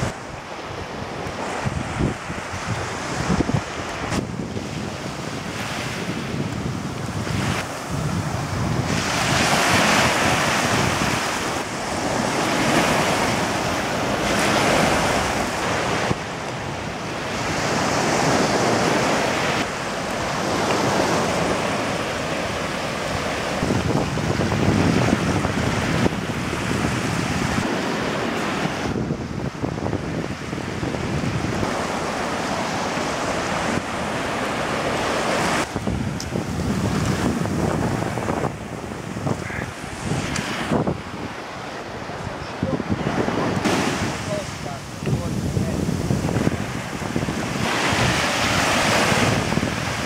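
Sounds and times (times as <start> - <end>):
ocean waves on sandy shore: 0.0 - 50.0
wind buffeting microphone: 0.0 - 50.0.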